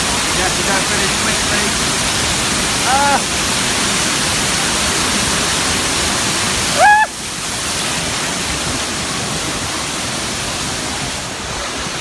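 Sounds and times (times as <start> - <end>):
falling splashing water: 0.0 - 12.0.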